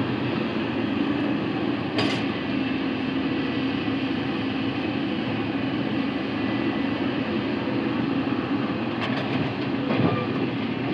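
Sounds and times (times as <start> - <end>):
diesel engines running: 0.0 - 10.9.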